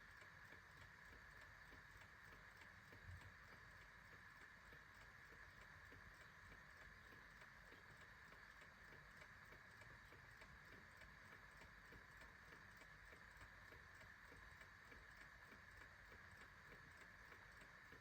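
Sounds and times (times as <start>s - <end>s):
clock ticking: 0.2s - 18.0s.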